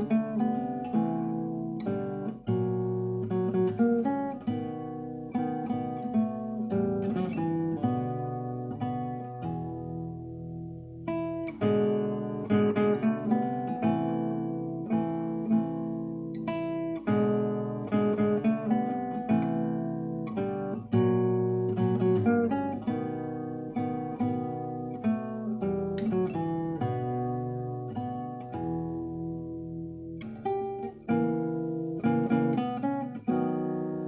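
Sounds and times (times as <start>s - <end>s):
solo acoustic guitar piece: 0.0s - 34.0s.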